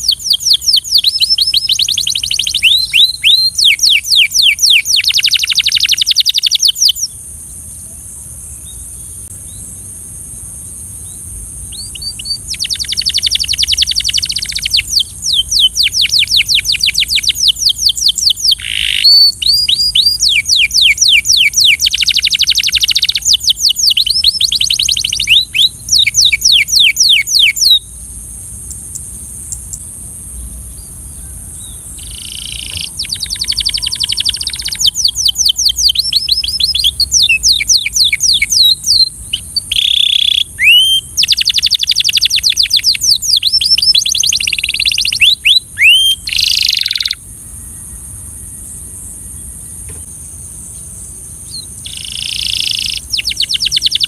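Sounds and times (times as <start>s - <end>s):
canary singing trills: 0.0s - 7.2s, 11.0s - 28.0s, 28.6s - 48.1s, 50.7s - 54.0s.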